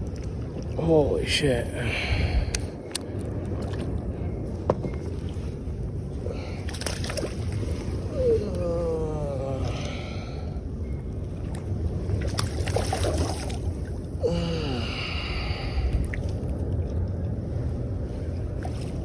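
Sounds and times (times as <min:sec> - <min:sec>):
wind and water on microphone: 0:00.0 - 0:19.0.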